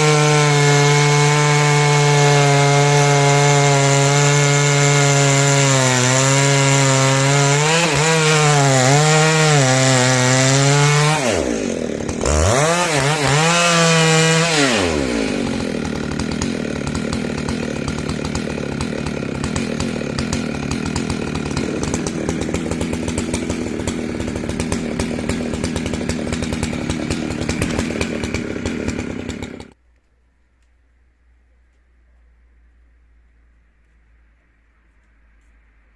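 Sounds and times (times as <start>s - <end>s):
chainsaw cutting wood: 0.0s - 29.8s.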